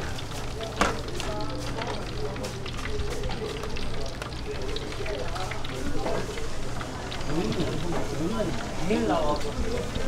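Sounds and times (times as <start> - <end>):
faint indistinct voices: 0.0 - 10.0.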